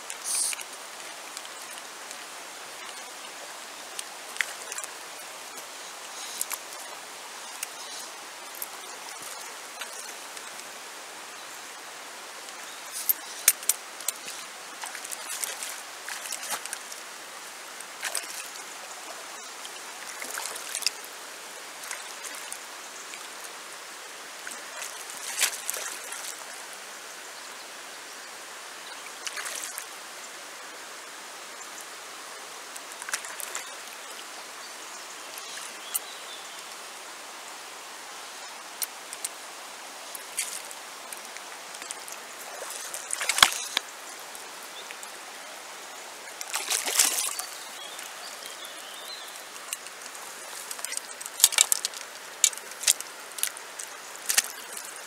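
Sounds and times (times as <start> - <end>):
water splashes: 0.0 - 26.7, 28.8 - 30.0, 31.8 - 36.8, 38.6 - 55.0
river flowing over stones: 0.0 - 55.0.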